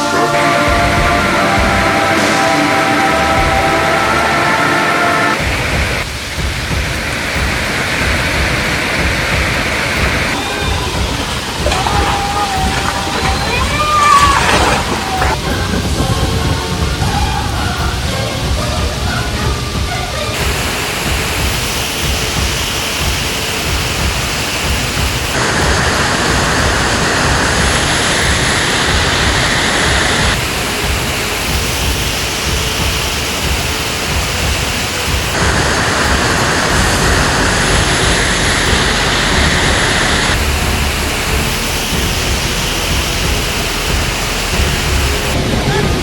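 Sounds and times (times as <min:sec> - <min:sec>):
fast floodwater rushing: 0:00.0 - 0:46.0.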